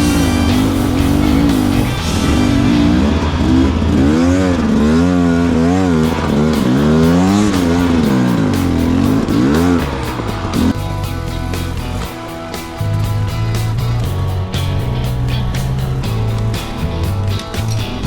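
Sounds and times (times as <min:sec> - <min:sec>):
background music: 0:00.0 - 0:18.0
dirt bike engine revving: 0:00.0 - 0:18.0.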